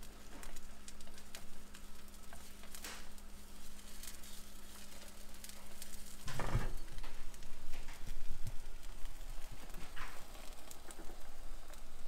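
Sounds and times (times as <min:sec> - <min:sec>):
frying pan sizzling: 0:00.0 - 0:12.0.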